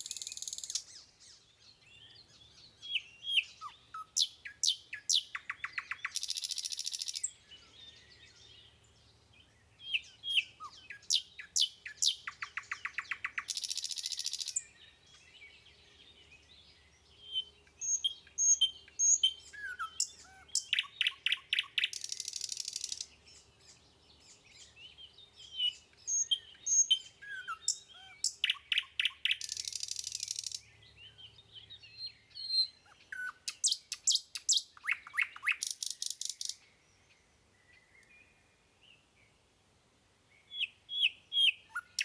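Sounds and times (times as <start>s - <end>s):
songbird singing with trills: 0.0s - 39.4s, 40.3s - 42.0s.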